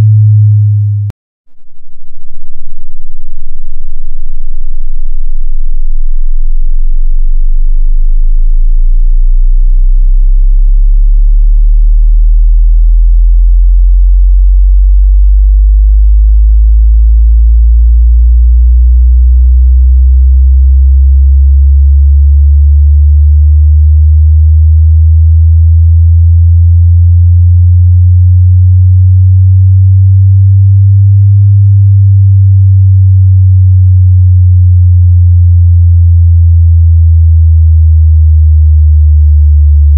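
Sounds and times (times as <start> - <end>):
deep bass sine tone sweep: 0.0 - 39.9.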